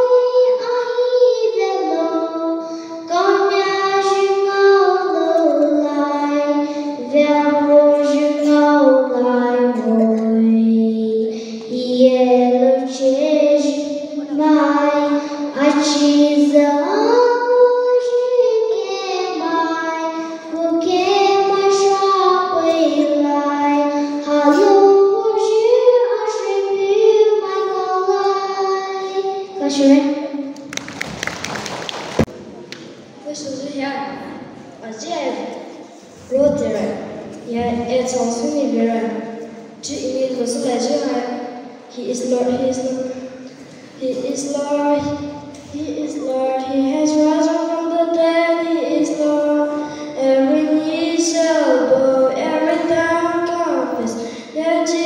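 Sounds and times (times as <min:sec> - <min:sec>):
girl singing into a microphone: 0:00.0 - 0:30.6, 0:33.4 - 0:55.0.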